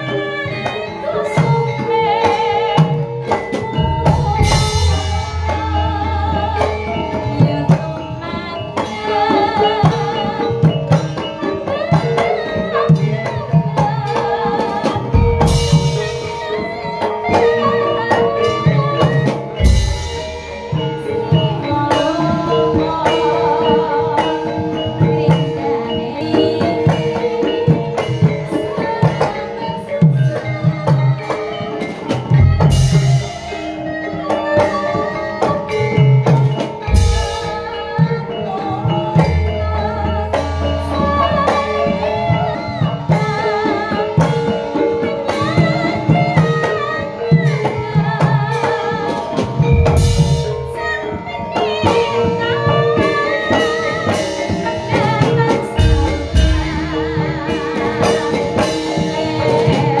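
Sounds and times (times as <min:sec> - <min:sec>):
hand drum strokes: 0:00.0 - 0:31.3, 0:34.2 - 1:00.0
metallophone notes: 0:00.0 - 1:00.0
woman singing ornamented melody: 0:00.0 - 1:00.0.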